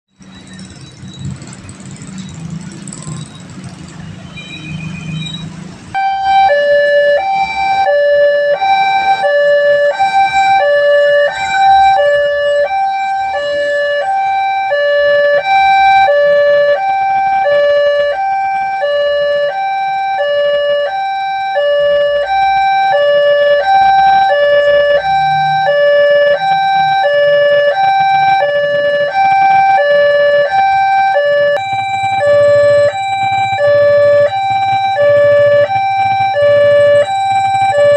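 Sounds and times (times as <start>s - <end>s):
low traffic noise: 0.2s - 37.9s
two-tone level-crossing alarm: 0.2s - 37.9s.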